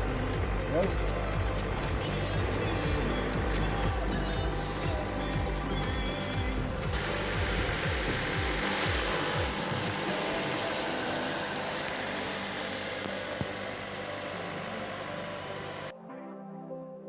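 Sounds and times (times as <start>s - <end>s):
car engine running: 0.0s - 15.9s
music: 0.0s - 17.0s.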